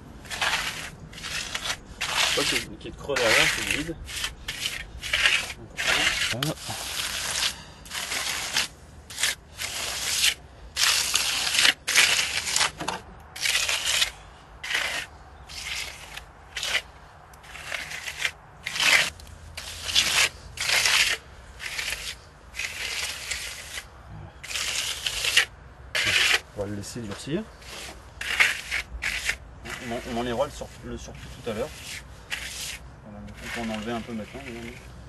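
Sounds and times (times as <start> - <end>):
hand tool scraping plaster: 0.2 - 34.9.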